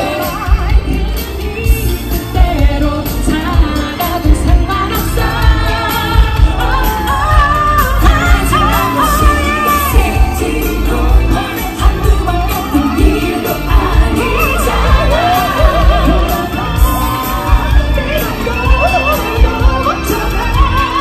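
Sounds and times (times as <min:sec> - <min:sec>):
live band with drum beat: 0:00.0 - 0:21.0
women singing pop ballad: 0:00.0 - 0:21.0.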